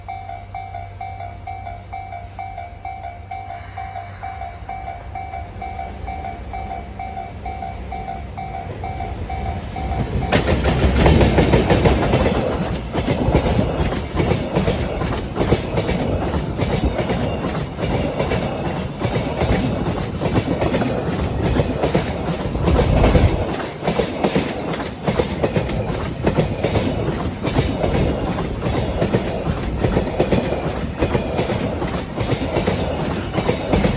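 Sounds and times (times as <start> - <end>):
train wheels clacking: 0.0 - 33.9.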